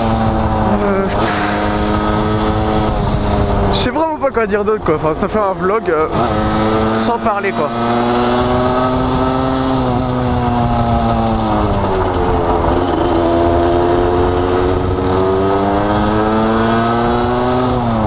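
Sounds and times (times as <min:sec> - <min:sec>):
two-stroke motorcycle engine: 0:00.0 - 0:03.9, 0:05.0 - 0:18.0
wind noise: 0:00.0 - 0:18.0.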